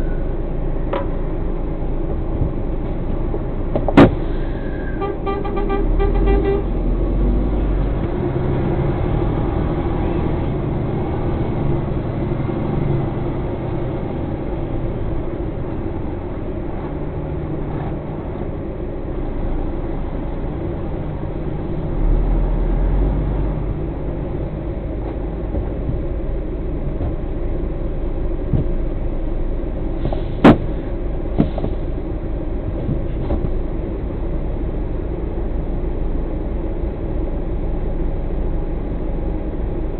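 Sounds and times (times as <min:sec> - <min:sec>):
lorry diesel engine running: 0:00.0 - 0:39.9.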